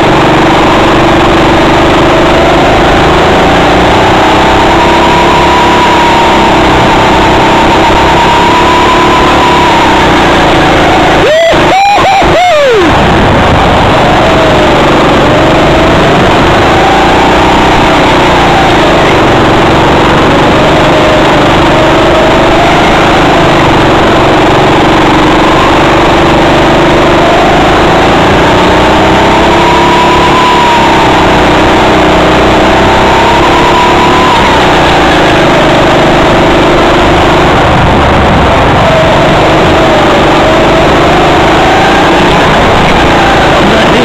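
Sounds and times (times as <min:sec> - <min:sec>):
go-kart engine running: 0:00.0 - 0:44.0.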